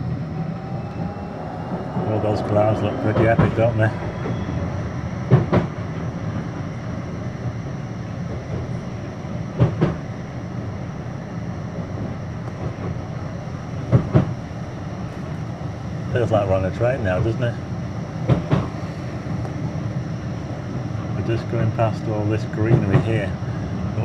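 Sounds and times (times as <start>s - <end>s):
tram rumbling on track: 0.0s - 24.0s.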